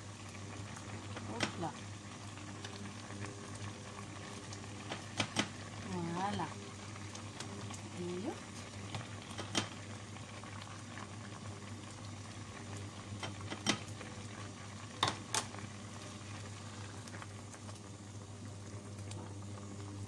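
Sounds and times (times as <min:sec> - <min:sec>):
jam bubbling in a pot: 0:00.0 - 0:20.0
steady low hum: 0:00.0 - 0:20.0.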